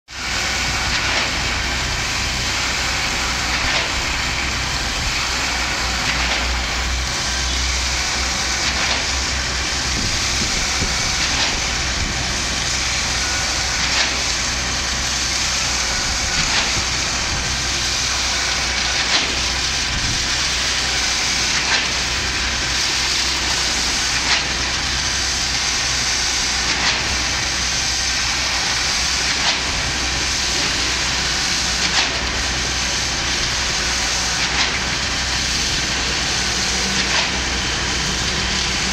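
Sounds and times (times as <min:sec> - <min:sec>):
concrete pump rumbling: 0:00.1 - 0:38.9.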